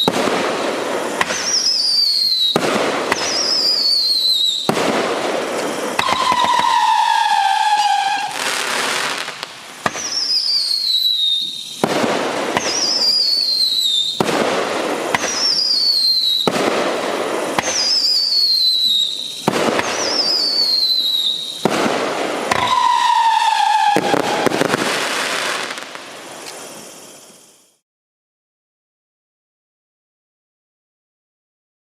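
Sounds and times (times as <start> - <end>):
crackling firework burst: 0.0 - 27.8
howling firework whistle: 0.0 - 27.8.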